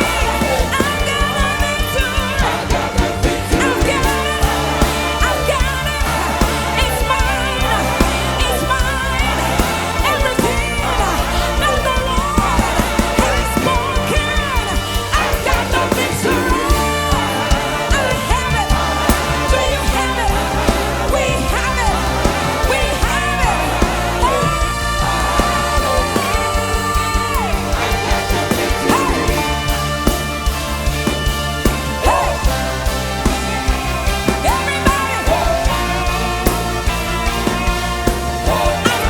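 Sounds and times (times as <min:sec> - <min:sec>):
music with beat and singing: 0:00.0 - 0:39.0.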